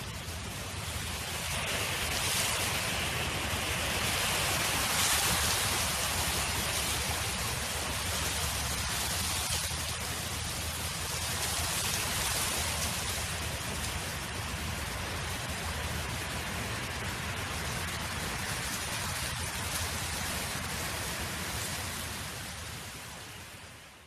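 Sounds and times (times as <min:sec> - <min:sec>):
wind blowing across field: 0:00.0 - 0:24.0.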